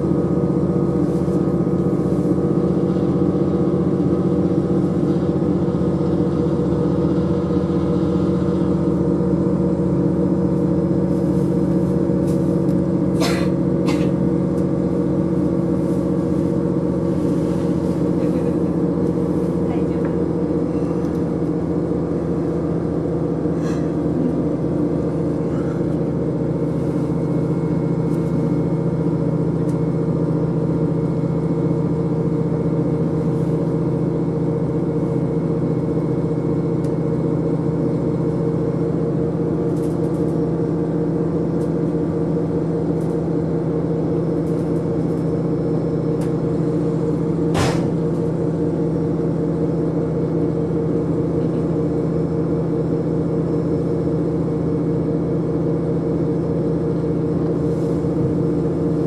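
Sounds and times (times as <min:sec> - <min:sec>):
diesel engine drone: 0:00.0 - 0:59.0
rumble of wheels on rail: 0:00.0 - 0:59.0.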